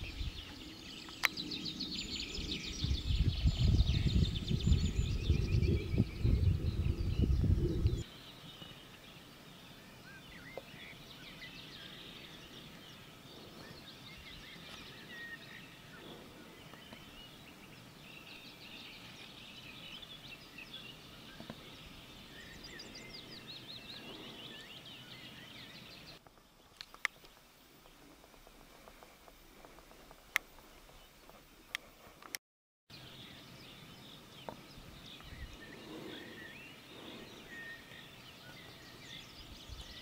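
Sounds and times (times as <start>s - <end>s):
small birds chirping: 0.0s - 31.9s, 32.9s - 40.0s.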